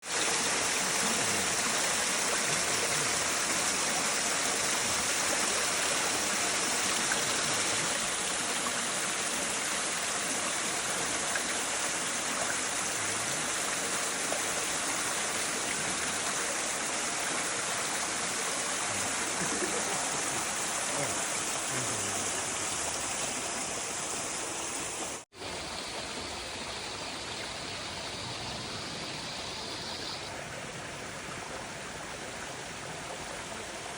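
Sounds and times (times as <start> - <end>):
waterfall rushing: 0.0 - 33.8.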